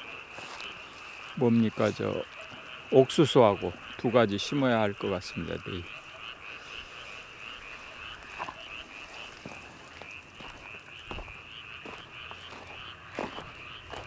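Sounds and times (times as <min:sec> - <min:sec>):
frogs trilling: 0:00.0 - 0:14.0.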